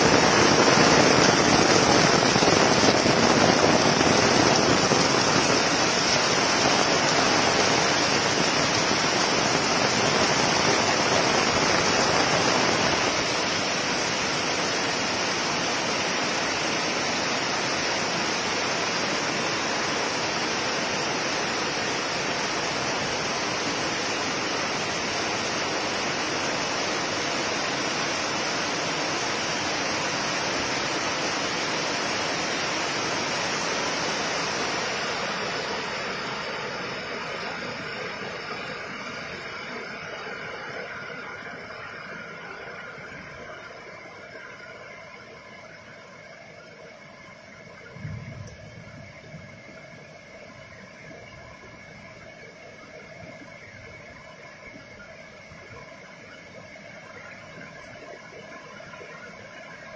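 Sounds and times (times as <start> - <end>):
heavy rain on road and cars: 0.0 - 59.9.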